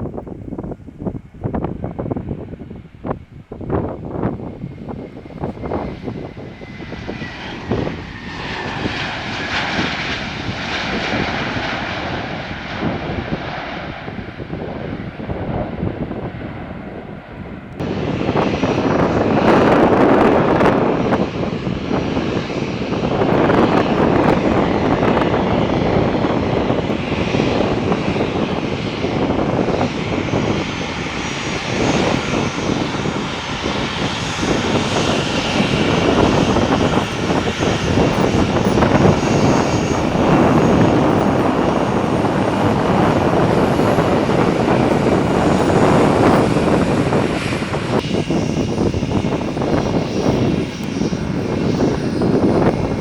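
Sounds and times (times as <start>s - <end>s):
airliner engines roaring: 0.0s - 53.0s.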